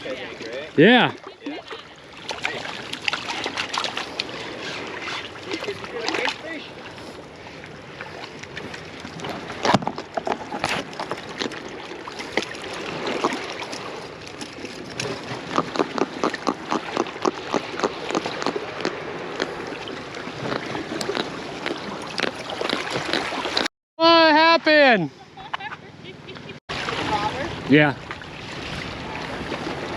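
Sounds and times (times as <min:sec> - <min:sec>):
ocean surf on beach: 0:00.0 - 0:09.8, 0:10.8 - 0:14.4, 0:15.0 - 0:25.4, 0:26.0 - 0:29.9.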